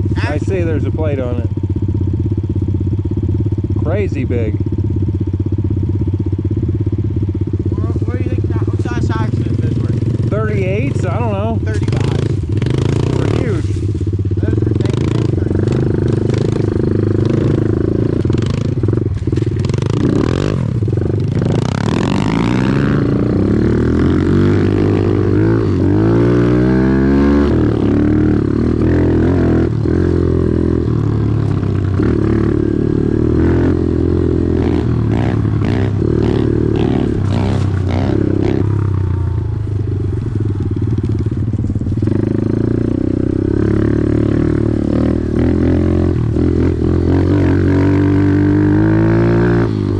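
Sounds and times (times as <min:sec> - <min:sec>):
off-road vehicle engine revving: 0:00.0 - 0:49.9.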